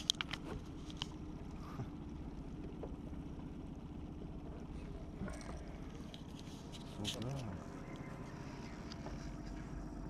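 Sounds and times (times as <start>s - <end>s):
low boat rumble: 0.0s - 10.0s.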